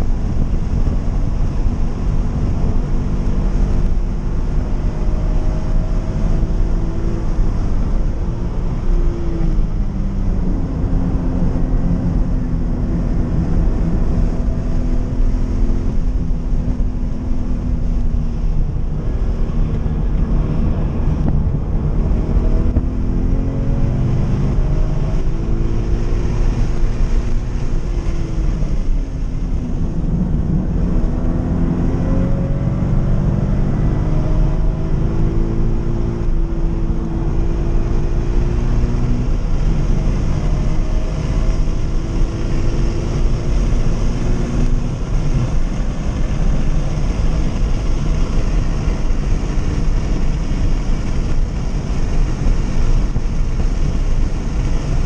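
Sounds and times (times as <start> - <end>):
car engine revving: 0.0 - 55.0
road and wind noise: 0.0 - 55.0.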